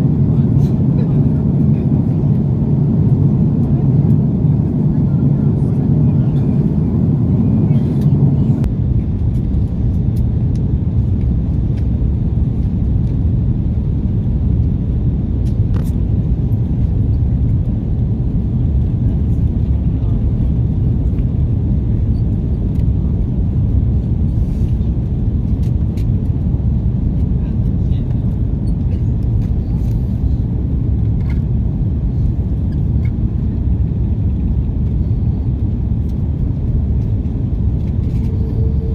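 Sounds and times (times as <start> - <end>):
jet engine roar in cabin: 0.0 - 38.9.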